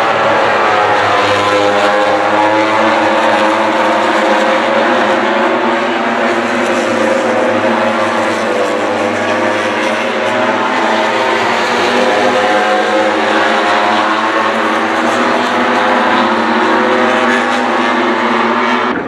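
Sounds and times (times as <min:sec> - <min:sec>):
racing motorcycle engines droning: 0:00.0 - 0:19.0.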